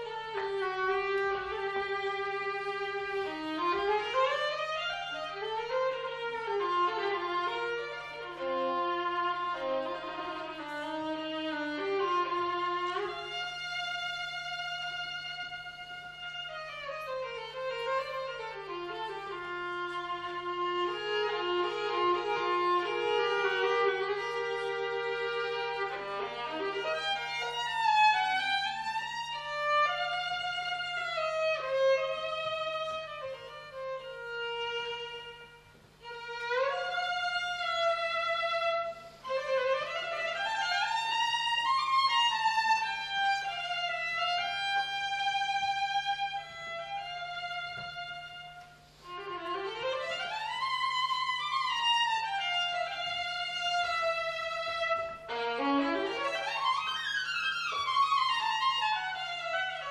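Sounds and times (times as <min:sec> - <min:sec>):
solo violin melody: 0:00.0 - 0:59.9.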